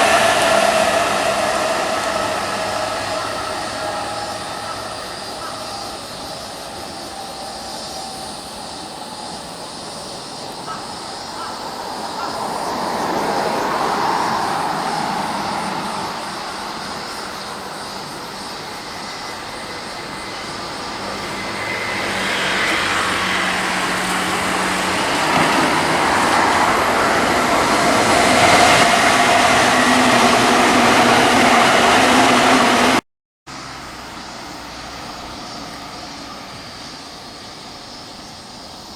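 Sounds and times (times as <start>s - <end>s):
electric train running past: 0.0s - 38.9s.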